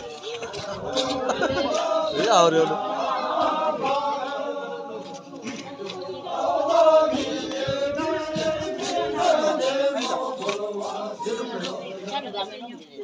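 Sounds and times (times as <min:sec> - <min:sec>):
voices chanting: 0:00.0 - 0:13.0.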